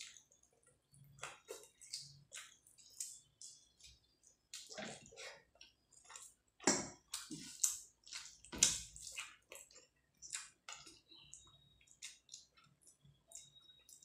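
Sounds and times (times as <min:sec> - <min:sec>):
wet squishy chewing: 0:00.0 - 0:14.0.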